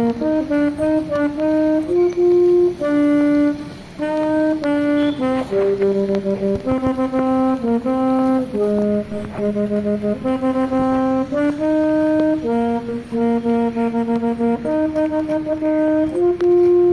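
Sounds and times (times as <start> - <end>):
background music melody: 0.0 - 16.9.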